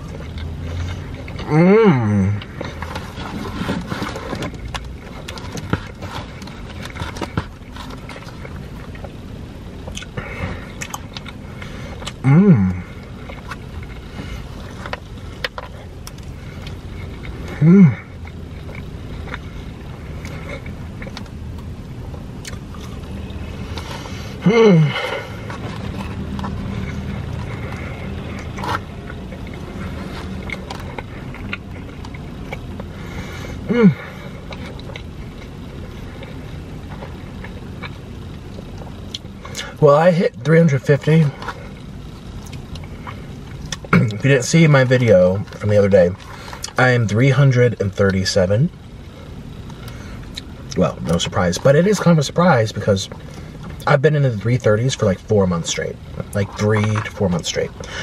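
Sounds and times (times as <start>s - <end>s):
person chewing: 0.0s - 39.8s, 40.9s - 46.8s, 48.9s - 51.3s
low hum inside car: 0.0s - 58.0s.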